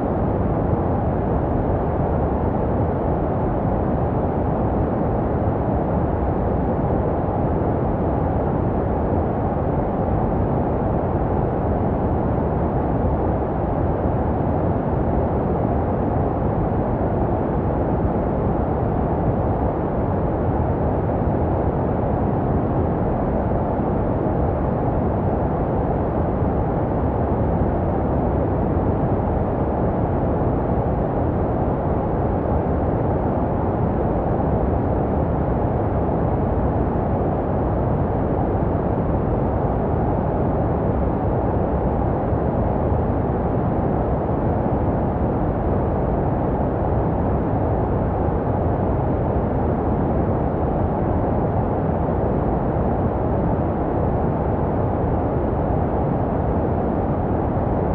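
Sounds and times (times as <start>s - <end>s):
deep muffled white noise: 0.0s - 57.9s.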